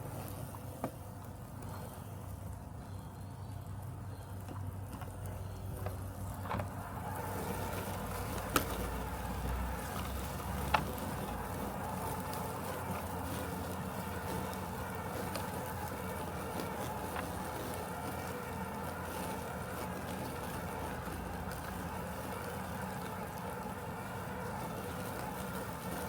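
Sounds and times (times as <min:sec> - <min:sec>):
robotic lawn mower humming: 0:00.0 - 0:26.0.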